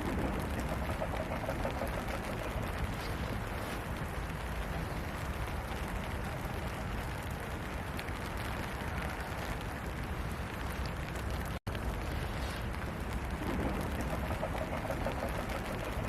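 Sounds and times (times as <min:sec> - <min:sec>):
deep rumble: 0:00.0 - 0:16.0
steady rain hissing: 0:00.0 - 0:16.0.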